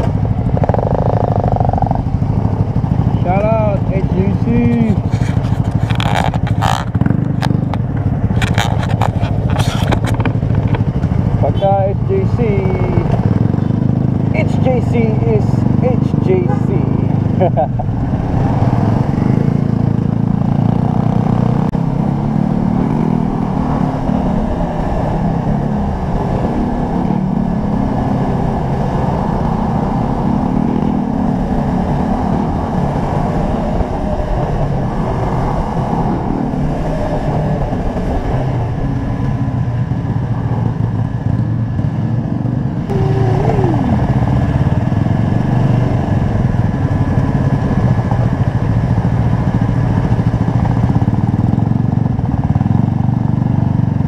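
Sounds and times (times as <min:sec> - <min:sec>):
motorcycle engine running: 0:00.0 - 0:36.5, 0:37.5 - 0:54.0
other motorcycles riding: 0:00.0 - 0:54.0.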